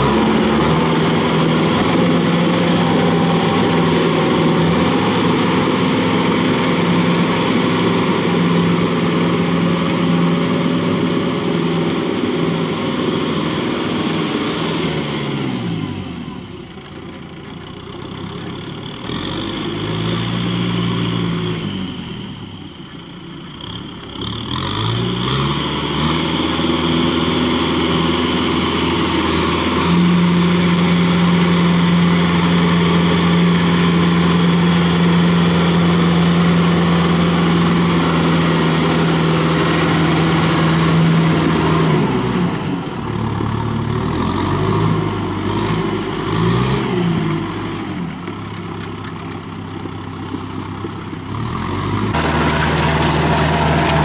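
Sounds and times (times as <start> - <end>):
tractor engine working: 0.0 - 54.0.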